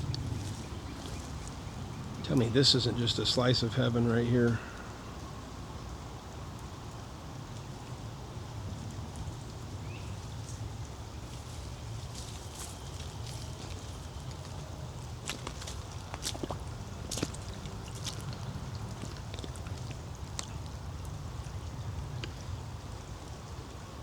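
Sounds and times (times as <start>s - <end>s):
water dripping from trees: 0.0s - 24.0s.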